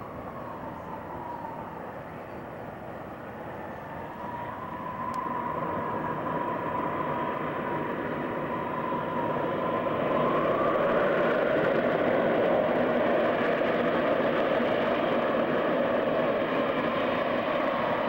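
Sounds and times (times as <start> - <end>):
jet roar with high whine: 0.0 - 18.0.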